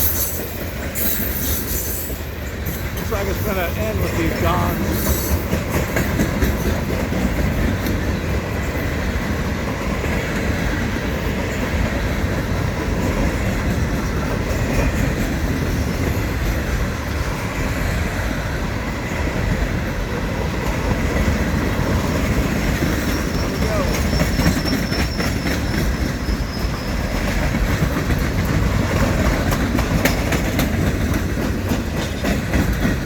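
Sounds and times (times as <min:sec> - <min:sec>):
freight train wheels rumbling on rails: 0:00.0 - 0:33.0.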